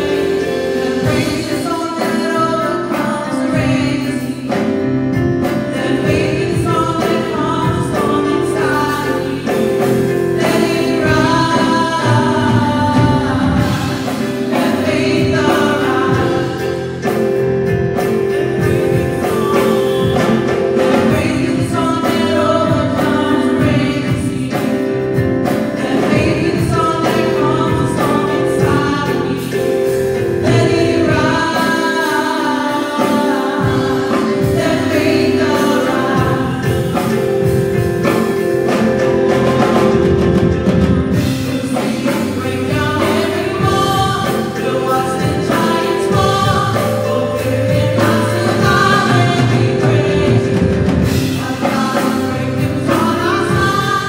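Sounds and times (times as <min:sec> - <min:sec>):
group singing gospel song: 0:00.0 - 0:54.0
instrumental accompaniment with beat: 0:00.0 - 0:54.0.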